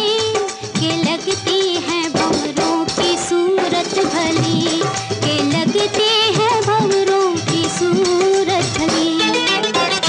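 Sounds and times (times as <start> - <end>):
women singing: 0.0 - 9.9
hand drum beat: 0.0 - 10.0
harmonium: 0.0 - 10.0.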